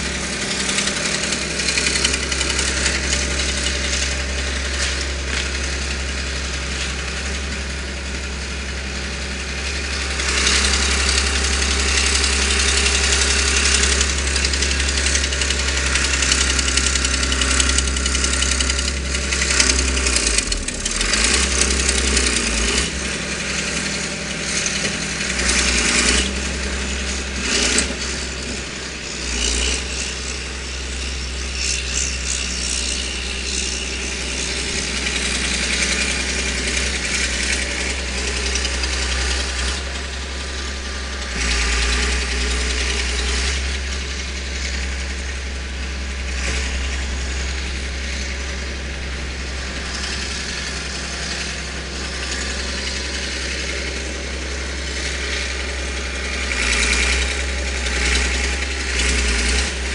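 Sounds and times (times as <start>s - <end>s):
loader engine idling: 0.0s - 59.9s.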